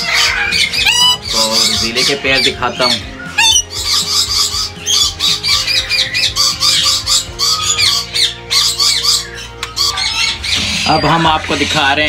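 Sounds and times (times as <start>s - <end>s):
background music: 0.0s - 12.0s
birds squawking shrilly: 0.0s - 12.0s.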